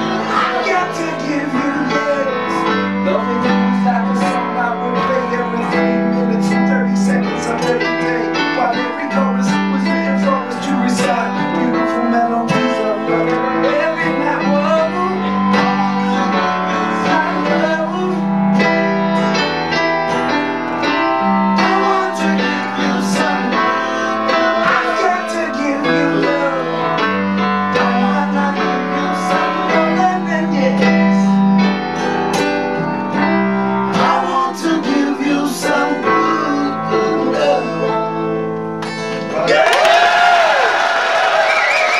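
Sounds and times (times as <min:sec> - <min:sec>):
man singing: 0:00.0 - 0:19.4, 0:20.9 - 0:32.6, 0:33.2 - 0:38.3
acoustic guitar strumming: 0:00.0 - 0:36.4
piano chords: 0:00.0 - 0:41.9.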